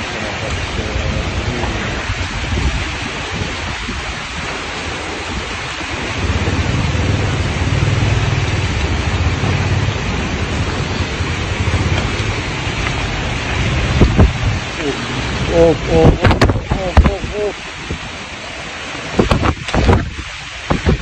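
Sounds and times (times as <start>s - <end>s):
heavy rain hissing: 0.0s - 21.0s
wind buffeting microphone: 0.0s - 21.0s.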